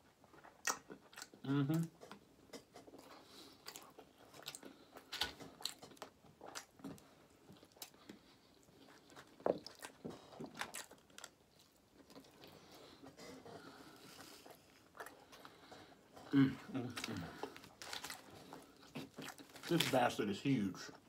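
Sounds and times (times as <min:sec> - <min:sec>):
person chewing with wet smacks: 0:00.0 - 0:20.0.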